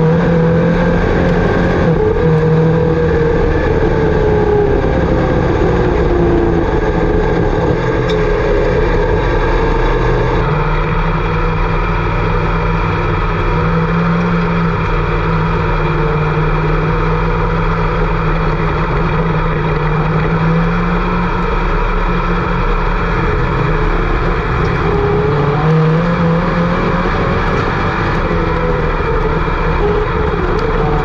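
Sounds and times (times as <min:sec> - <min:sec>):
race car engines running hard: 0:00.0 - 0:31.0.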